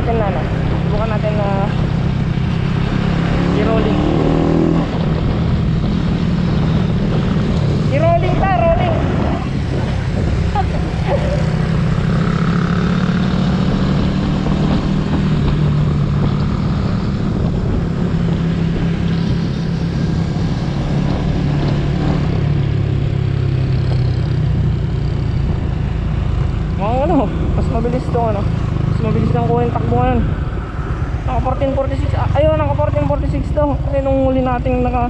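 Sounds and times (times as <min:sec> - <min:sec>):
motorcycle engine running hard: 0:00.0 - 0:35.0
wind and road noise: 0:00.0 - 0:35.0.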